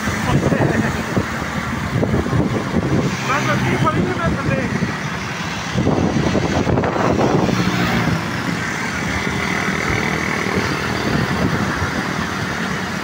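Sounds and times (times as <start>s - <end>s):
motorcycle and car engines: 0.0s - 13.0s
tyres rushing on road: 0.0s - 13.0s.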